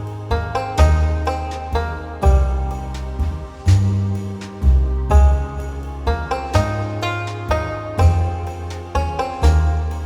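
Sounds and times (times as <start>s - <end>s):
plucked string notes: 0.0s - 10.0s
steady bass pulse: 0.0s - 10.0s.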